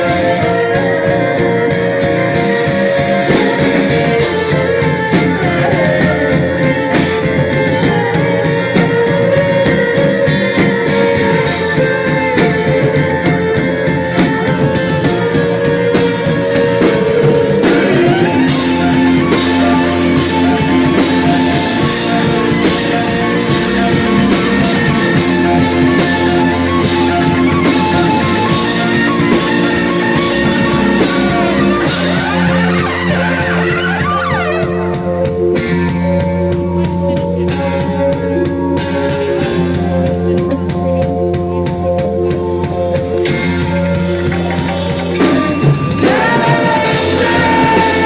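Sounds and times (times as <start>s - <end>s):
rock band playing instrumental: 0.0s - 48.0s.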